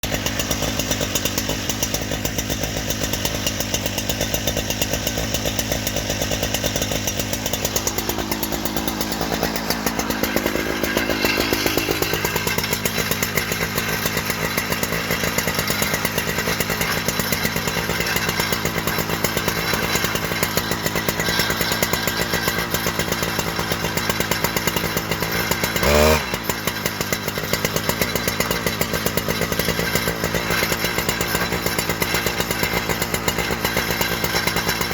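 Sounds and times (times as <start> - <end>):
chainsaw engine cutting: 0.0 - 34.9.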